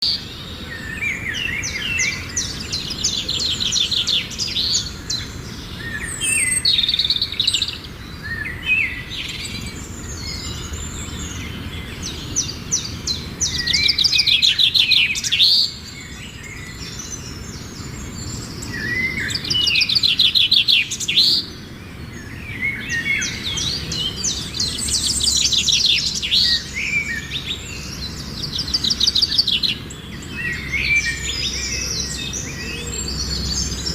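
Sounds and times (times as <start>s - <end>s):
small birds trilling and chirping: 0.0s - 33.9s.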